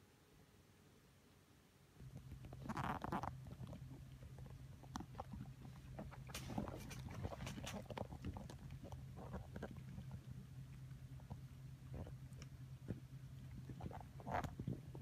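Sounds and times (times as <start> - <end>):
steady low hum: 0.0 - 15.0
kittens moving and eating: 2.0 - 15.0.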